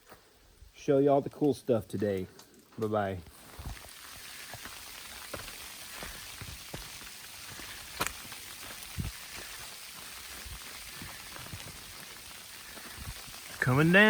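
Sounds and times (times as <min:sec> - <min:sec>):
sleet and light rain pattering: 0:00.0 - 0:14.0.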